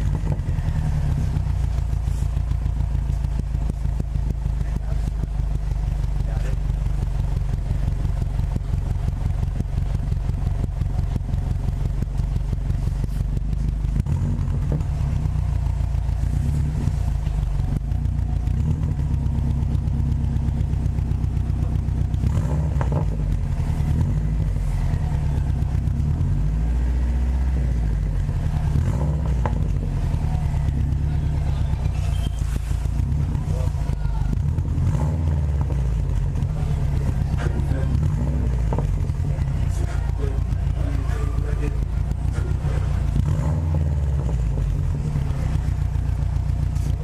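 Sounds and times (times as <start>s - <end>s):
car engine and exhaust drone: 0.0s - 47.0s.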